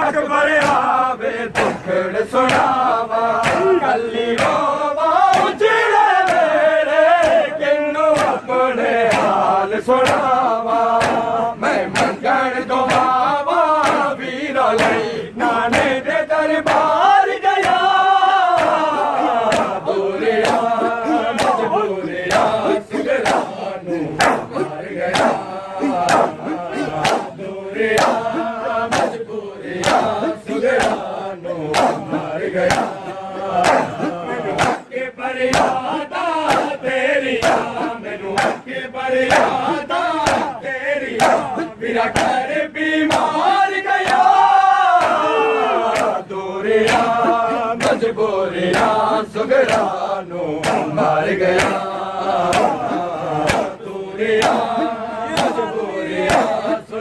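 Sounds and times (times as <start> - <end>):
men chanting in unison: 0.0 - 57.0
hands slapping bare chests: 0.6 - 3.8, 4.4 - 4.7, 5.3 - 5.6, 6.2 - 6.6, 7.2 - 7.5, 8.1 - 8.4, 9.0 - 15.1, 15.7 - 16.0, 16.6 - 29.2, 29.8 - 34.9, 35.5 - 36.8, 37.4 - 42.4, 43.1 - 45.3, 45.9 - 46.2, 46.8 - 48.1, 48.7 - 50.0, 50.6 - 53.8, 54.4 - 56.8.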